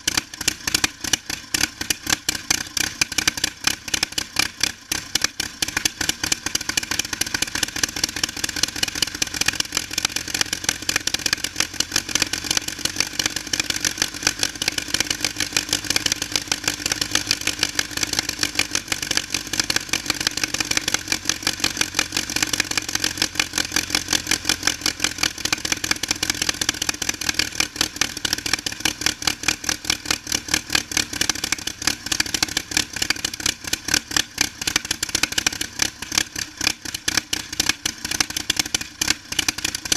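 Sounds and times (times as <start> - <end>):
aircraft engine running steadily: 0.0 - 39.9.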